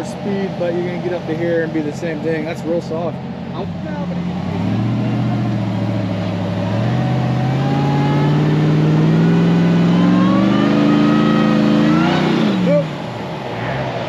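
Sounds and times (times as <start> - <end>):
truck engine revving under load: 0.0 - 14.0.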